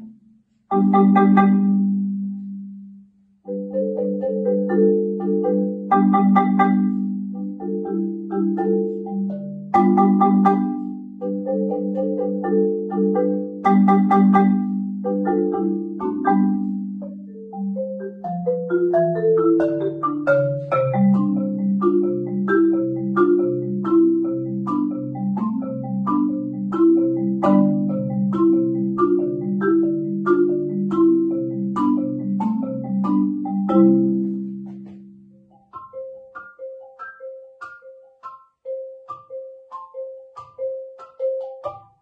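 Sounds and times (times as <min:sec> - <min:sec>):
mallet percussion melody: 0:00.0 - 0:42.0.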